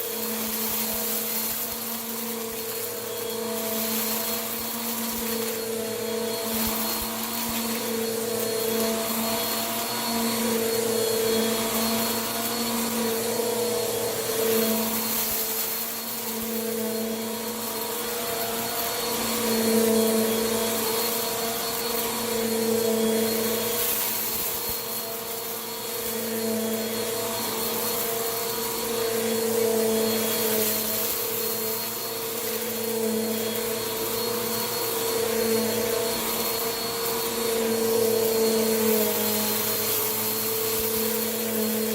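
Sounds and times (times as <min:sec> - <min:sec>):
vacuum cleaner running: 0:00.0 - 0:41.9
vacuum sucking up crunchy dirt: 0:00.0 - 0:41.9.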